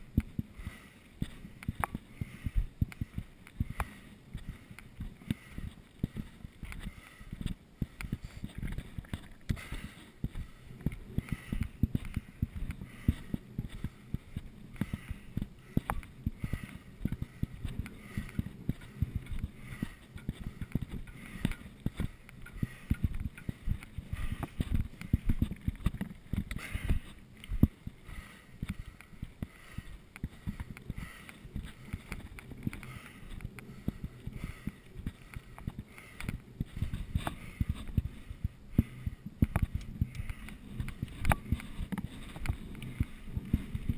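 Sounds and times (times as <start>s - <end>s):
bike tyres rumbling on trail: 0.0s - 43.9s
bike rattling and clicking: 0.1s - 43.9s.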